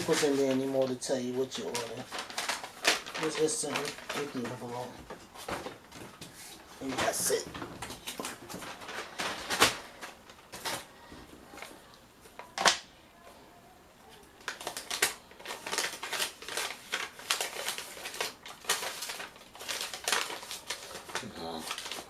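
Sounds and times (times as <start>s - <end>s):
packaging crinkling and rustling: 0.0s - 12.9s, 14.1s - 22.0s.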